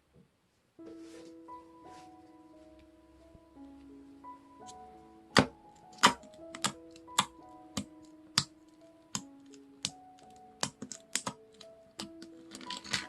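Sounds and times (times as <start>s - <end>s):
background music of held notes: 0.8s - 13.0s.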